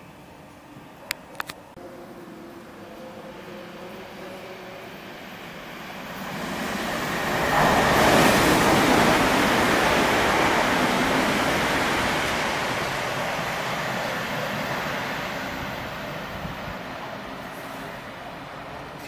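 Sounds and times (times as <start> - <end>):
electric train passing: 1.8 - 19.0.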